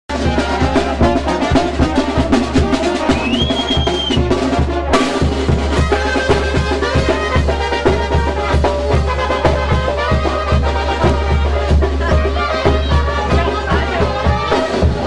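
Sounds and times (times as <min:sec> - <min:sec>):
brass band playing: 0:00.1 - 0:15.0
fast drum beat: 0:00.1 - 0:15.0.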